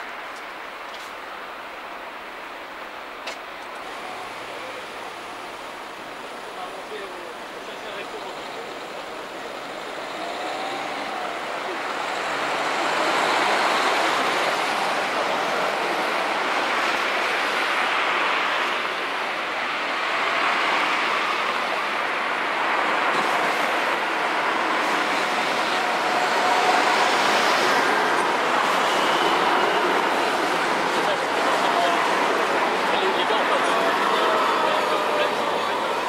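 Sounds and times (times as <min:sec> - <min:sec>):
traffic hiss on wet roads: 0:00.0 - 0:36.0
tram passing on tracks: 0:00.0 - 0:36.0.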